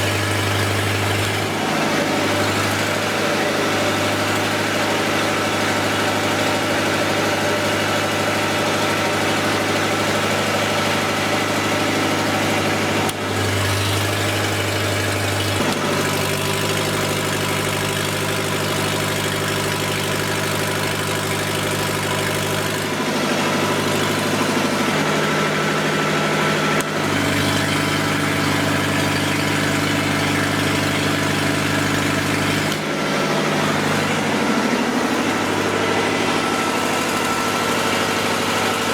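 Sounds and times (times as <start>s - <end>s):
diesel generator engine running: 0.0s - 38.9s.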